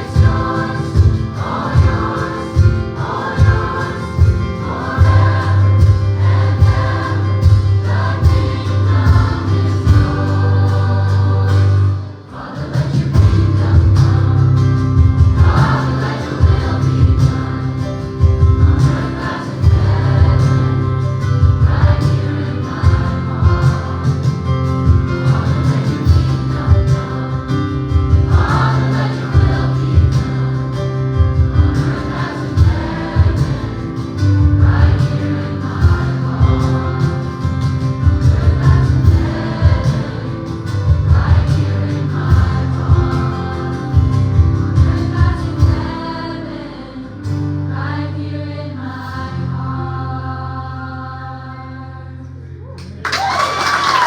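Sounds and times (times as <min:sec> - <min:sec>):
heavy bass line: 0:00.0 - 0:12.2, 0:13.0 - 0:46.9
gospel choir singing: 0:00.0 - 0:54.0.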